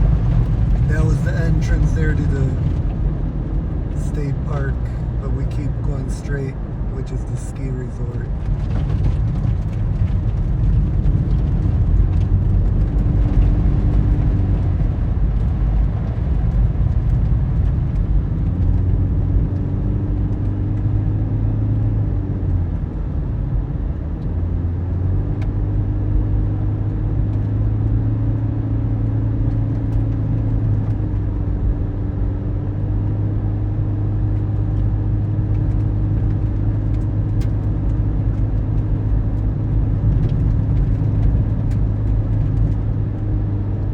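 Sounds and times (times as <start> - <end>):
car engine hum: 0.0 - 43.9
road rumble inside car: 0.0 - 43.9.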